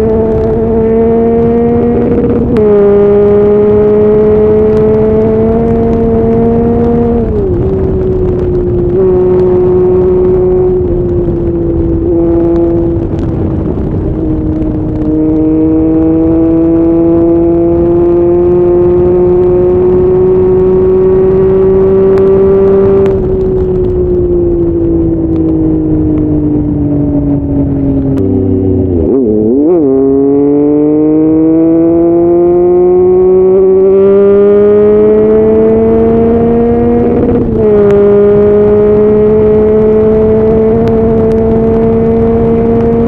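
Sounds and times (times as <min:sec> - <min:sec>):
motorcycle engine at highway speed: 0:00.0 - 0:43.0
wind rush: 0:00.0 - 0:43.0.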